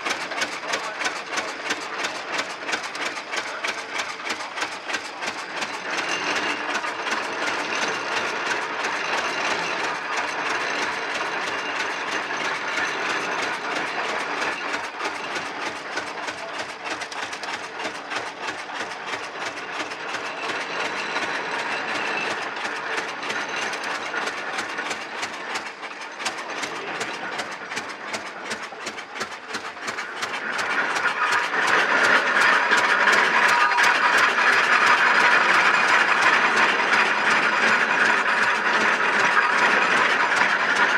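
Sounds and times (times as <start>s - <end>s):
engine running with knocking beat: 0.0s - 40.9s.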